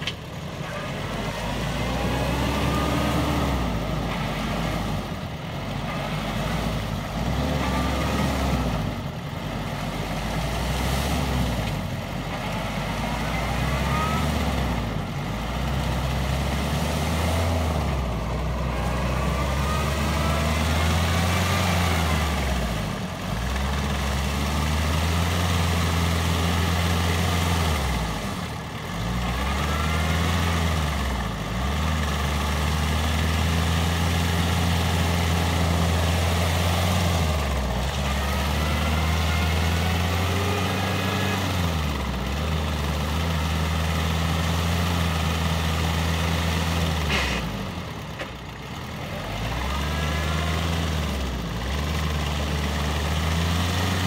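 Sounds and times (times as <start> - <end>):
diesel engine pulling: 0.0 - 54.0.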